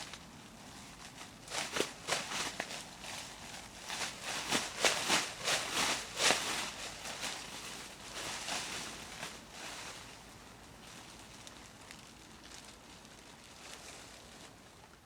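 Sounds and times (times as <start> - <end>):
plastic bag crinkly rustling: 0.0 - 15.0.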